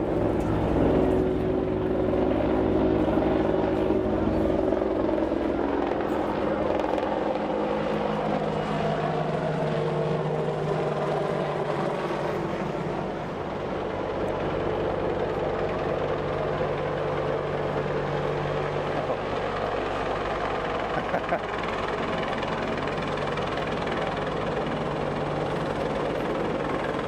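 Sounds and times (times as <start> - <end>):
helicopter engines and rotor beat: 0.0 - 27.0.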